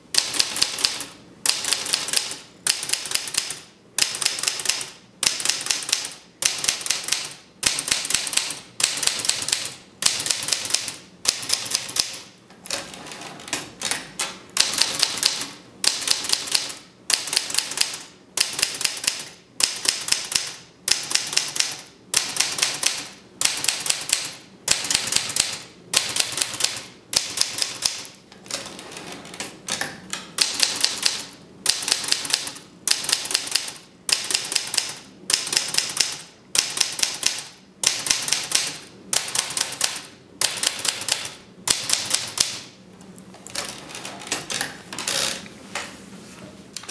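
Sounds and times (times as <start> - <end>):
manual typewriter typing: 0.2 - 42.7.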